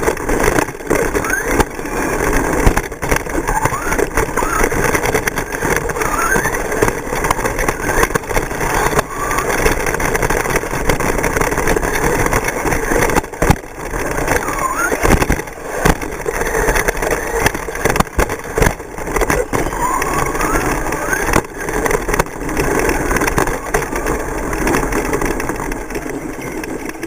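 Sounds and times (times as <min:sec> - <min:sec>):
rc truck motors whining: 0:00.0 - 0:27.0.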